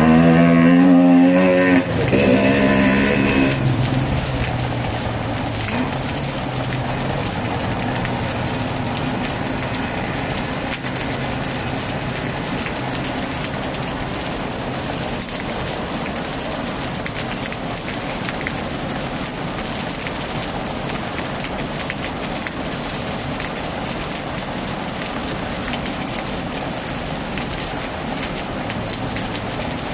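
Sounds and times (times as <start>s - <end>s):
heavy rain on a tin roof: 0.0s - 29.9s.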